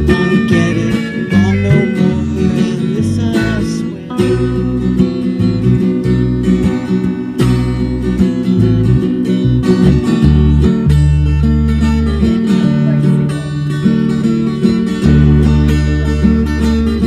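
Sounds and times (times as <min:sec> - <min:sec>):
bass and drums: 0:00.0 - 0:17.0
guitar: 0:00.0 - 0:17.0.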